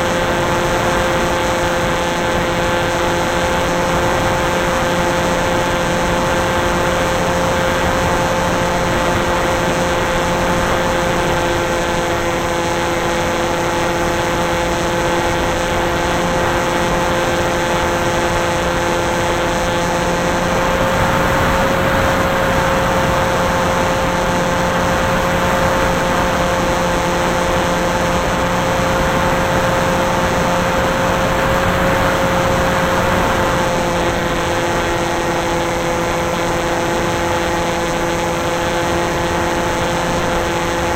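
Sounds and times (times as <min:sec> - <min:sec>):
model aircraft motor whine: 0:00.0 - 0:40.9
rushing wind noise: 0:00.0 - 0:40.9.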